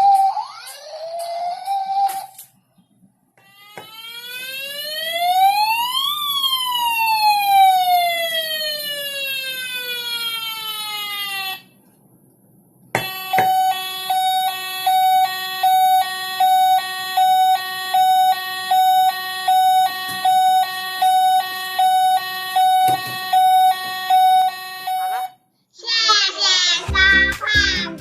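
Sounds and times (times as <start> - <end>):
two-tone ambulance siren: 0.0 - 2.4, 3.4 - 11.8, 13.0 - 25.4.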